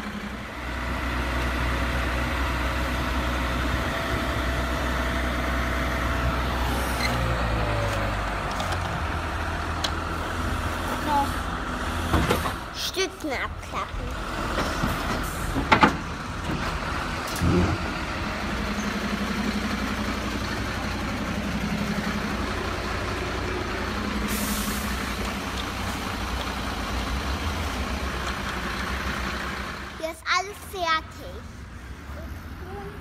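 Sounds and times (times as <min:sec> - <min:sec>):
recorded truck engine running: 0:00.0 - 0:30.2.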